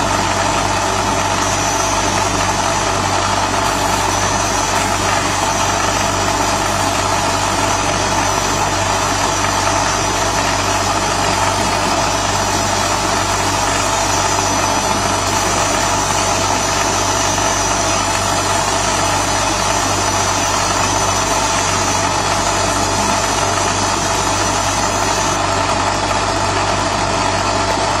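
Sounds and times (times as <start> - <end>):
high thin whine: 0.0 - 28.0
machine mechanical hum: 0.0 - 28.0.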